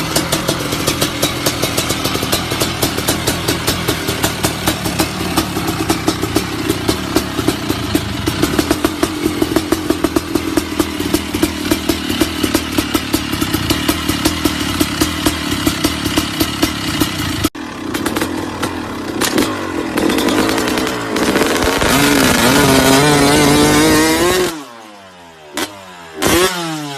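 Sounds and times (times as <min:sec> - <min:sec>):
two-stroke motorbike engine: 0:00.0 - 0:26.9.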